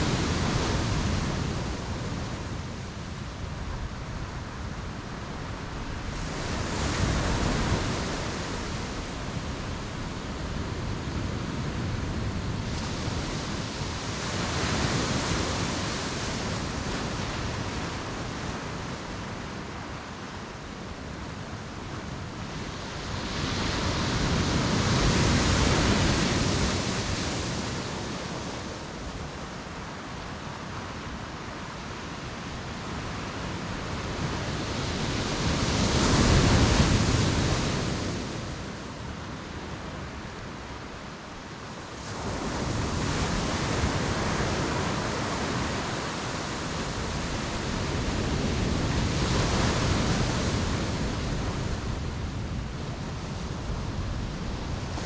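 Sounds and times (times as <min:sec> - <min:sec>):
ocean waves on shore: 0:00.0 - 0:55.0.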